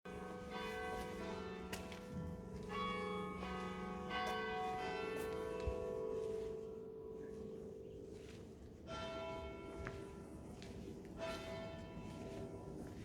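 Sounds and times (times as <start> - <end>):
church bell ringing: 0.1 - 13.0.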